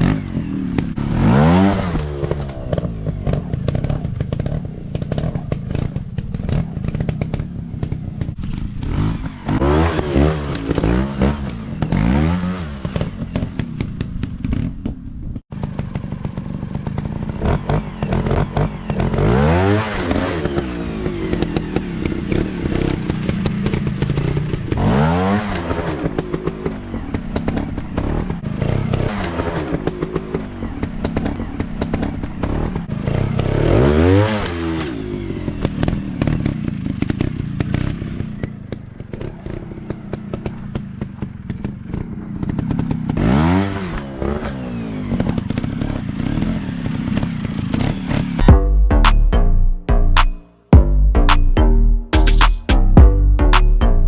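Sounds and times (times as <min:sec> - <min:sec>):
dirt bike engines revving: 0:00.0 - 0:14.5, 0:15.6 - 0:48.5.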